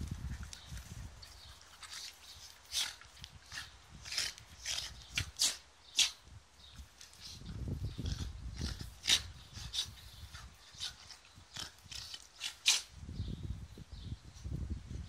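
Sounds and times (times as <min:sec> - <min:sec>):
dogs making sharp noises: 0:00.3 - 0:06.2, 0:06.8 - 0:13.0.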